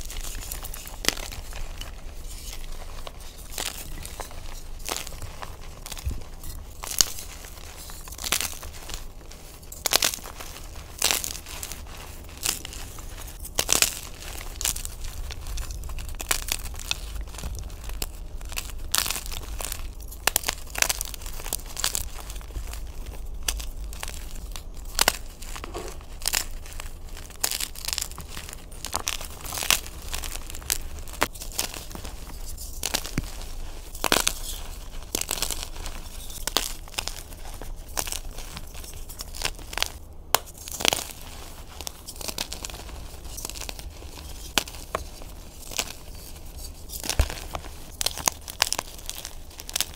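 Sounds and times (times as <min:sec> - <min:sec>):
chalk crunching and snapping: 0:00.0 - 0:49.9
dry powder crumbling: 0:00.0 - 0:49.9.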